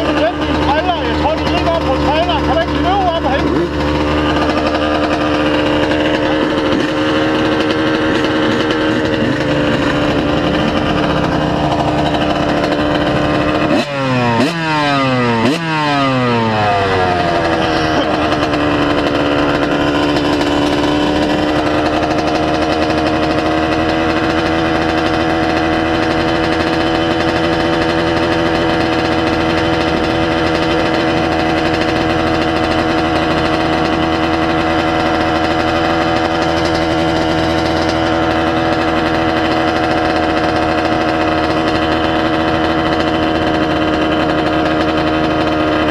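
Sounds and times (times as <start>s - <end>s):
two-stroke motorbike engine revving: 0.0s - 45.9s.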